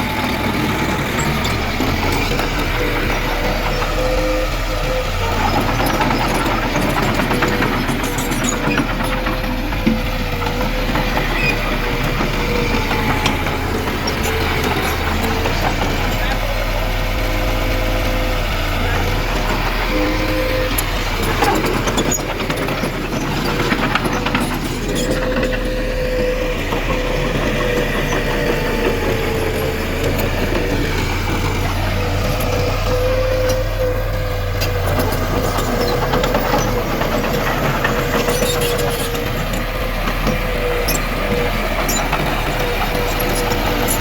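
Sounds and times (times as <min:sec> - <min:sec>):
diesel engine of heavy machinery: 0:00.0 - 0:44.0.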